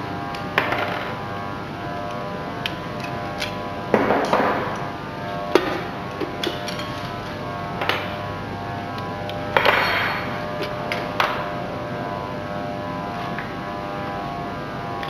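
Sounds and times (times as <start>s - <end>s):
machine steady hum: 0.0s - 15.0s.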